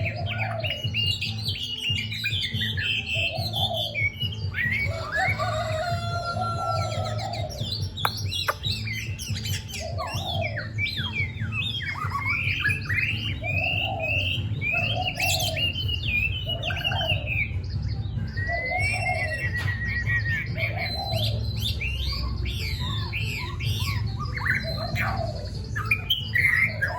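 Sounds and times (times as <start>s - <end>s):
lower warbling bird call: 0.0s - 26.9s
songbirds chirping and trilling: 0.0s - 26.9s.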